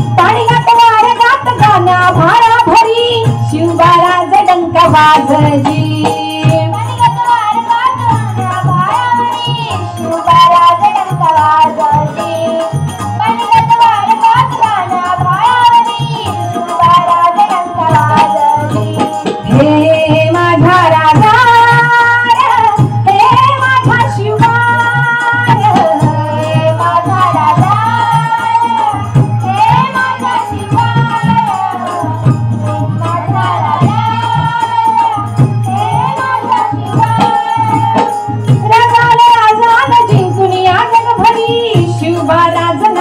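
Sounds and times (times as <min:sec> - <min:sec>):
drum rhythm: 0:00.0 - 0:43.0
jingling percussion: 0:00.0 - 0:43.0
women singing devotional song: 0:00.0 - 0:43.0.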